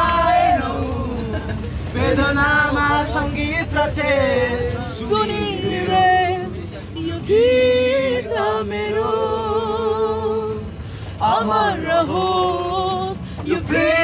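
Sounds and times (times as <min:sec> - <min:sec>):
low rumble inside bus: 0:00.0 - 0:14.0
people singing together: 0:00.0 - 0:14.0.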